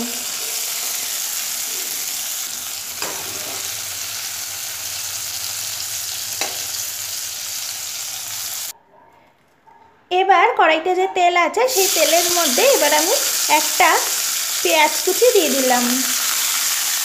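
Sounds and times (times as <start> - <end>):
beans sizzling in hot oil: 0.0 - 8.7, 11.7 - 17.0.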